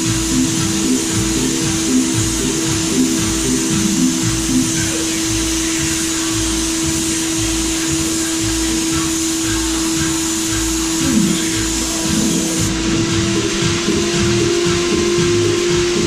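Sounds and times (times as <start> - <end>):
paint sprayer turbine whine: 0.0 - 16.0
spray gun hissing: 0.0 - 16.0.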